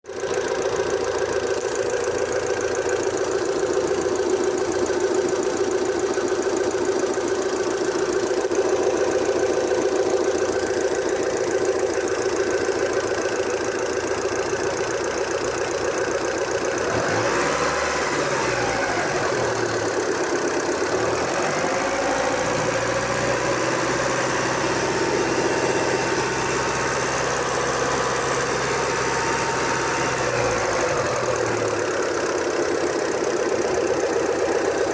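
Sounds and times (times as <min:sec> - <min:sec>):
car engine idling and revving: 0:00.1 - 0:34.9.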